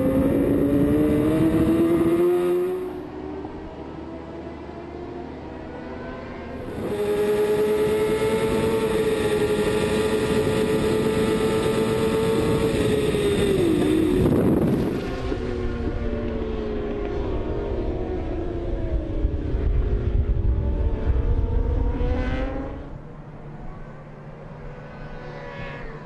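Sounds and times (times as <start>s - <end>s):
motorcycle engine at high revs: 0.0s - 23.5s.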